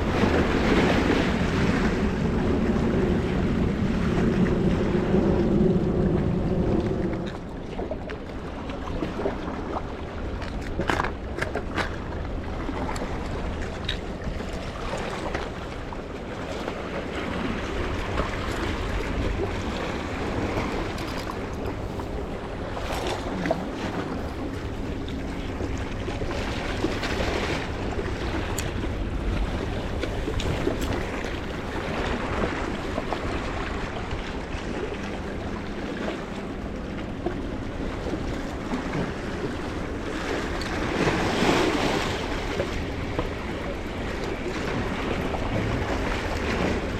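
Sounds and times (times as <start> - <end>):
sea water washing on rocks: 0.0 - 46.9
wind rumbling on microphone: 0.0 - 46.9.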